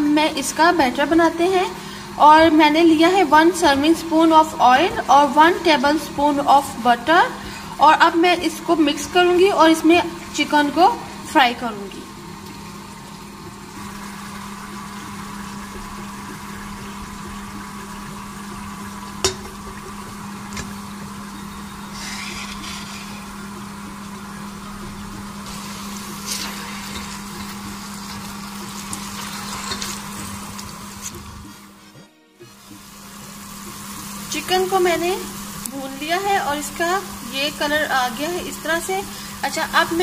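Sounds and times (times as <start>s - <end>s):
butter sizzling in oil: 0.0s - 31.8s, 32.5s - 40.0s.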